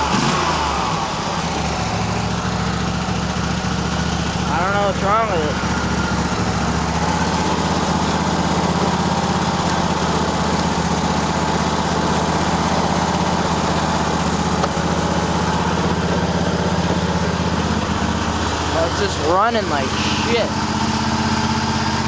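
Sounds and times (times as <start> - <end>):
lawn tractor engine idling roughly: 0.0 - 22.0.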